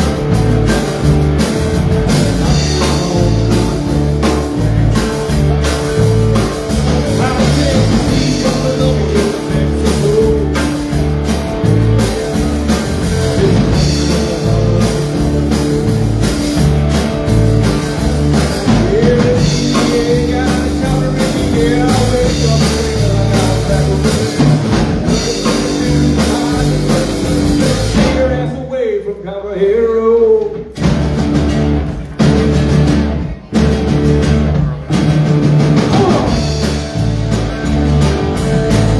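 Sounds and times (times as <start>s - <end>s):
live rock band playing: 0.0s - 28.6s, 30.6s - 38.9s.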